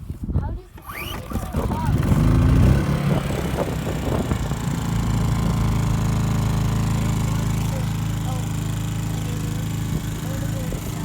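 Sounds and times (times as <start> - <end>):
generator engine humming: 0.9 - 11.0.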